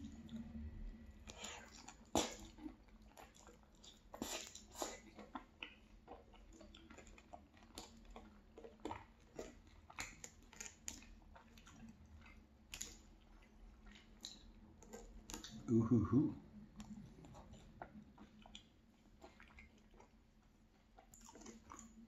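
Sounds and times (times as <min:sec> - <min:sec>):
wet chewing: 0:01.2 - 0:15.7, 0:16.7 - 0:22.0.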